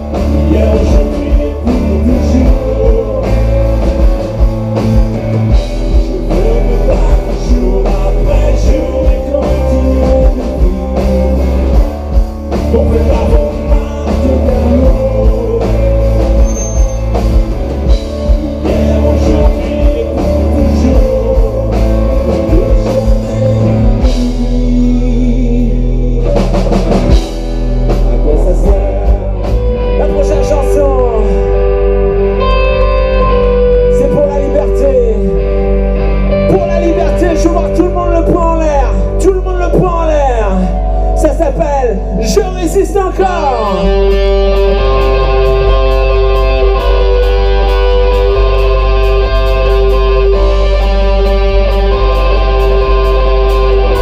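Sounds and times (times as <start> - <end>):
person singing: 0.0 - 4.6, 5.9 - 17.2, 18.0 - 54.0
rock band playing live: 0.0 - 54.0.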